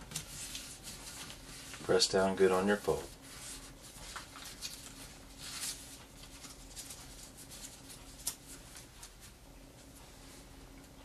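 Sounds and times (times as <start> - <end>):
paper rustling and creasing: 0.0 - 10.0
faint steady hum: 0.0 - 11.0.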